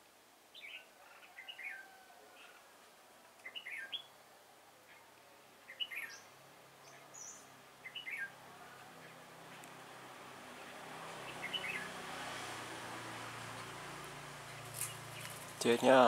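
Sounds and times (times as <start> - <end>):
bulbuls singing: 0.5 - 1.8, 3.3 - 12.1, 13.3 - 16.0.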